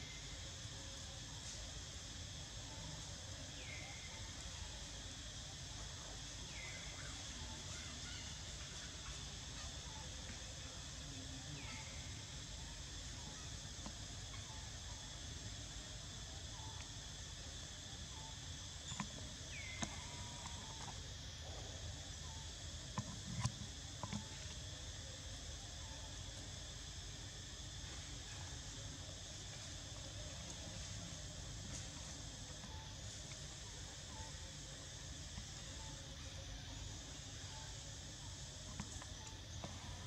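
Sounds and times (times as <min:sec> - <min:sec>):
high-pitched insect chorus: 0:00.0 - 0:40.0.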